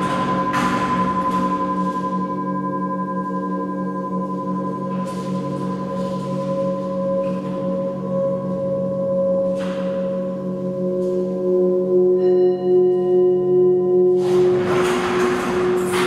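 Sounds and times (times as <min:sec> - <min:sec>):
lower ringing tone: 0:00.0 - 0:15.8
sustained ringing tones: 0:00.0 - 0:15.8.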